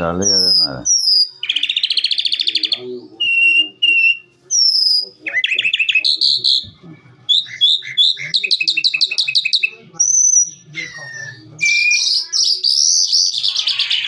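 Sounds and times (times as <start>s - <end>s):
lark singing: 0.0s - 14.0s.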